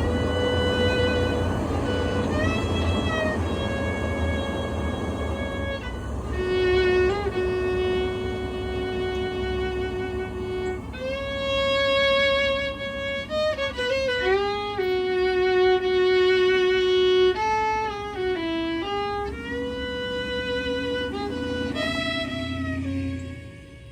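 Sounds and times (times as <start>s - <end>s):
fiddle playing slow melody: 0.0s - 23.9s.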